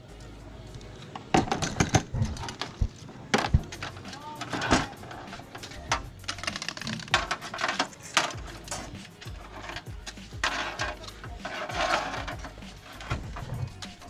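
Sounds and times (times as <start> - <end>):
hard parts clicking and knocking: 0.7 - 14.0.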